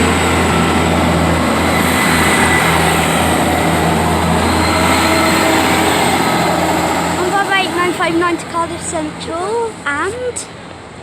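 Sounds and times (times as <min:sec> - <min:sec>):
diesel engine humming: 0:00.0 - 0:11.0
train wheels rushing on rails: 0:00.0 - 0:11.0.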